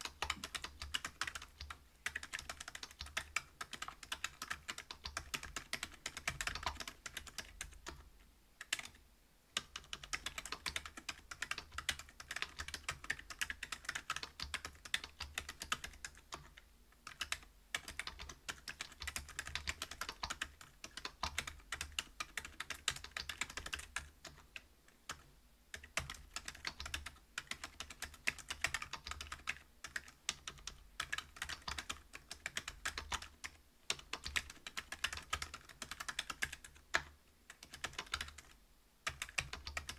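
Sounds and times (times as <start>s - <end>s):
soft keyboard clacking: 0.0s - 9.0s, 9.6s - 39.9s.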